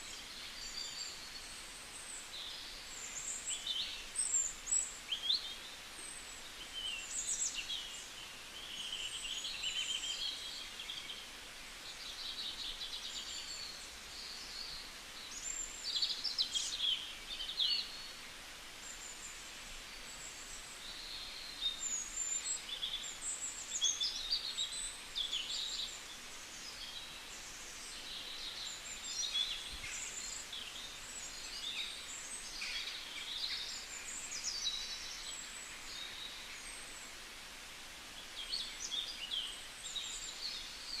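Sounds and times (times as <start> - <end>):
faint background hiss: 0.0 - 41.0
songbirds singing and calling: 0.0 - 41.0.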